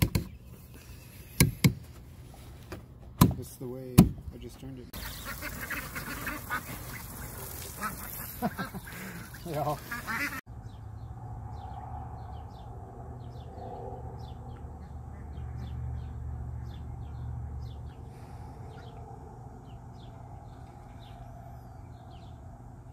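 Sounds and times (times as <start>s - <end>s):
birds chirping: 3.4s - 22.9s.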